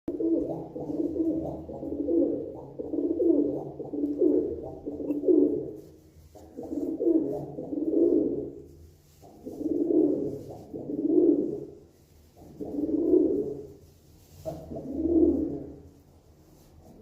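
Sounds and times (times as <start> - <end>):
pigeon cooing: 0.1 - 8.6, 9.2 - 11.8, 12.4 - 13.8, 14.5 - 15.9.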